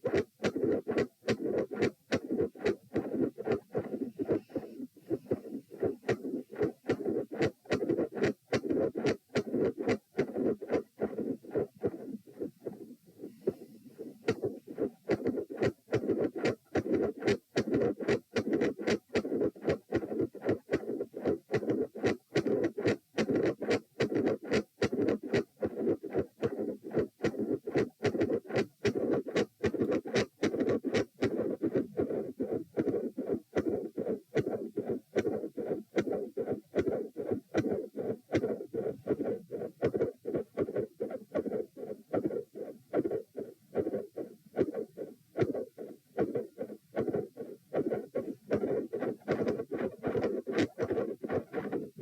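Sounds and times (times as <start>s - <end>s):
heart murmur: 0.0s - 52.0s
heartbeat: 0.0s - 52.0s.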